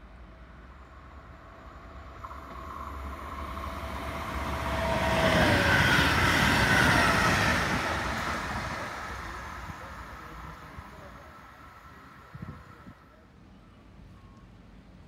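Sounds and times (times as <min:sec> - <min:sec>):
train passing by: 0:00.0 - 0:15.0
train whine dropping in pitch: 0:00.6 - 0:14.4.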